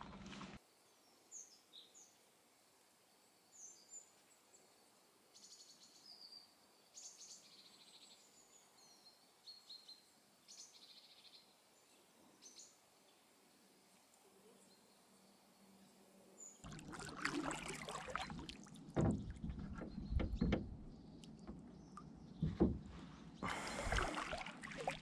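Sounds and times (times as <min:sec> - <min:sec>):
songbirds chirping faintly: 0:00.0 - 0:25.0.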